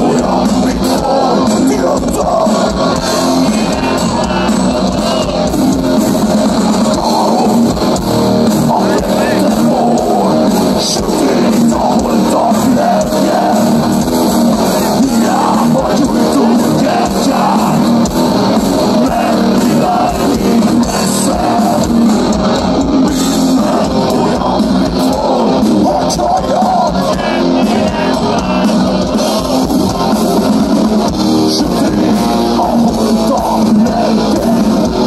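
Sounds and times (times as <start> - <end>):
live heavy metal band: 0.0 - 35.0
person singing: 0.0 - 35.0.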